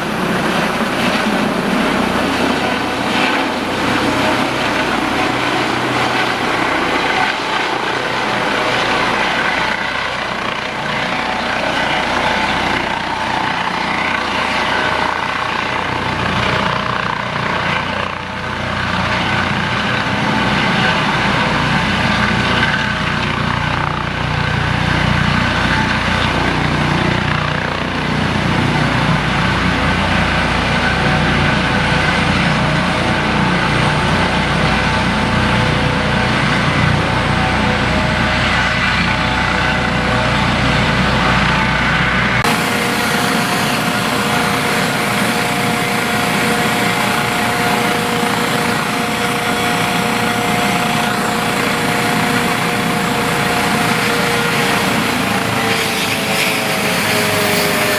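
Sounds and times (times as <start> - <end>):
helicopter rotor and turbine whine: 0.0 - 57.9.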